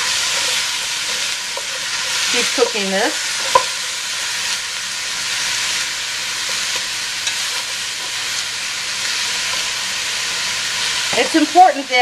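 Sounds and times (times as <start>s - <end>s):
spatula stirring and scraping: 0.0s - 11.4s
food sizzling in a pot: 0.0s - 12.0s.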